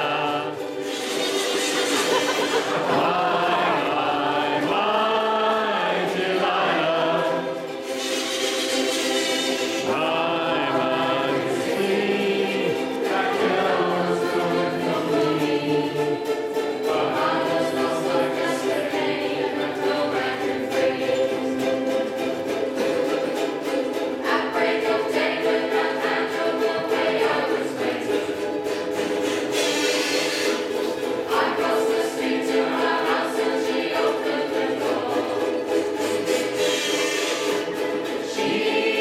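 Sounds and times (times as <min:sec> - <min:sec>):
group of voices singing: 0:00.0 - 0:39.0
ukulele ensemble strumming: 0:00.0 - 0:39.0.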